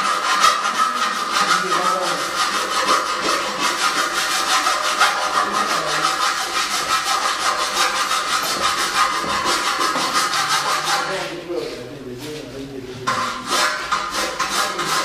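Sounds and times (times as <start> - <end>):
hand saw cutting metal: 0.0 - 11.4, 13.1 - 15.0.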